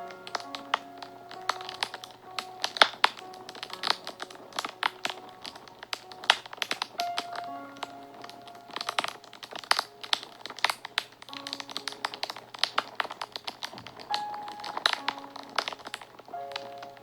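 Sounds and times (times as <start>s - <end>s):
soft slow background music: 0.0s - 17.0s
wood fire crackling: 0.0s - 17.0s.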